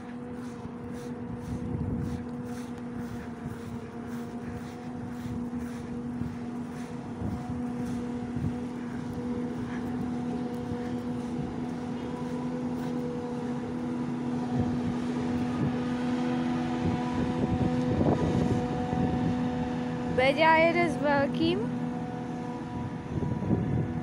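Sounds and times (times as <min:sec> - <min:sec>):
heavy machine engine drone: 0:00.0 - 0:24.0.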